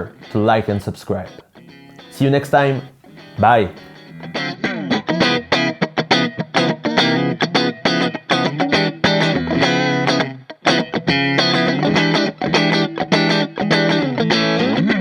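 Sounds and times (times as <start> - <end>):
electric guitar lead line: 0.0 - 15.0.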